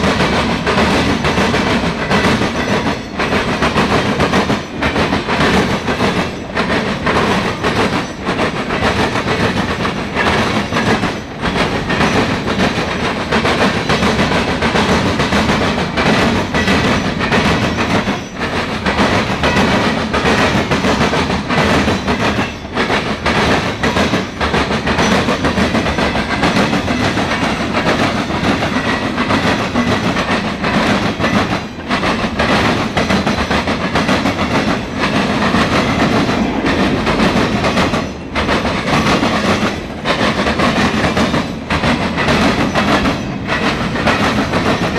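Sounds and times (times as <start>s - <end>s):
train wheels rumbling on rails: 0.0s - 44.9s
wheels clattering over rail joints: 0.0s - 44.9s.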